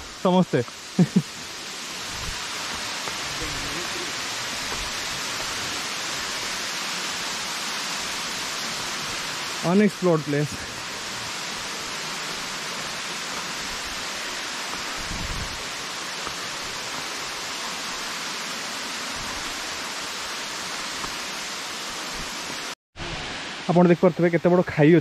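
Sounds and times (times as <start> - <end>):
waterfall rushing: 0.0 - 24.4.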